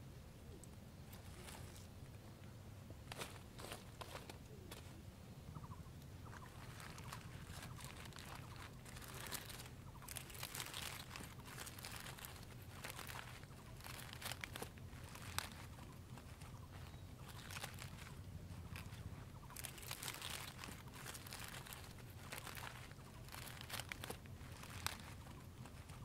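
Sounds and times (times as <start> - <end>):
dried leaves crinkling and crackling: 0.6 - 5.0, 6.2 - 26.0.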